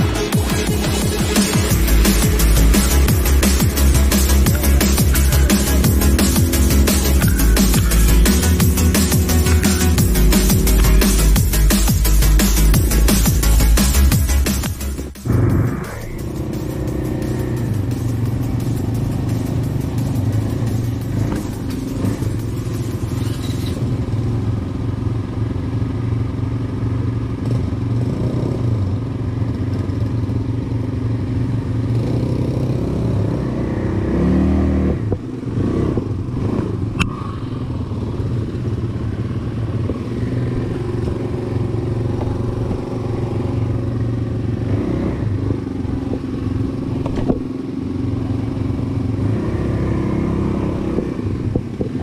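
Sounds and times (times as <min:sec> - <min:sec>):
quad bike engine running: 0:00.0 - 0:52.0.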